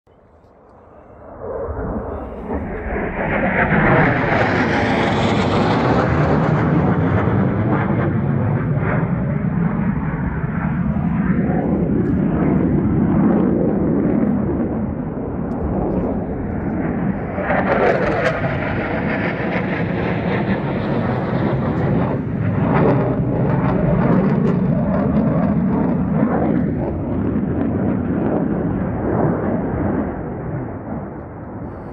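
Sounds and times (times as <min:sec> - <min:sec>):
fighter jet engine roar: 0:00.5 - 0:31.9.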